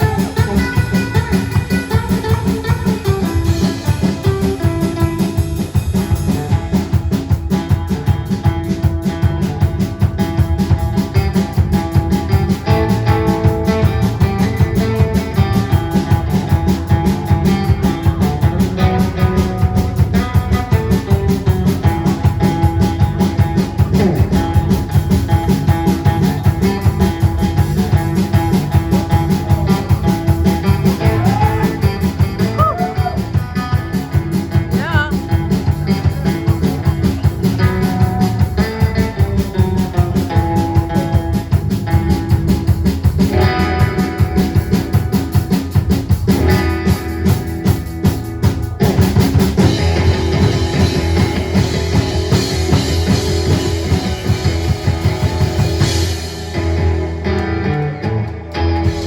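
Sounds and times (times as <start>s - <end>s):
bent lead guitar notes: 0.0s - 59.0s
rock band playing: 0.0s - 59.0s.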